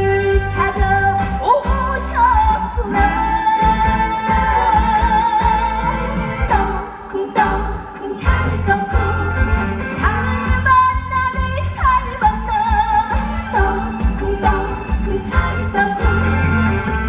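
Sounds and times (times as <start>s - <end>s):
band backing track: 0.0s - 17.0s.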